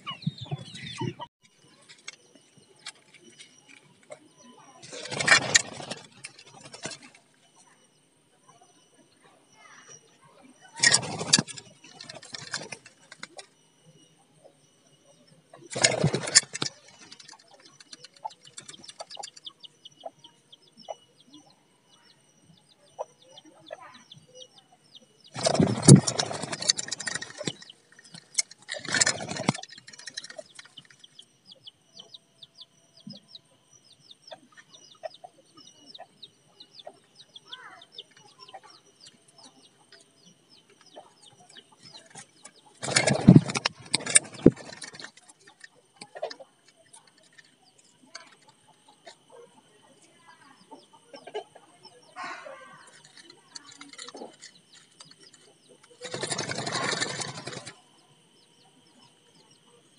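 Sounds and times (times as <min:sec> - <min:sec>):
high chirping with rapid ticks: 0:00.0 - 0:59.9.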